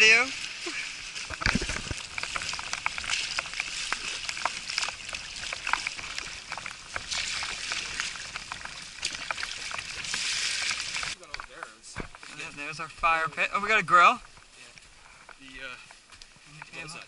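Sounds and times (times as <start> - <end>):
waves slapping against canoe: 0.0 - 16.7.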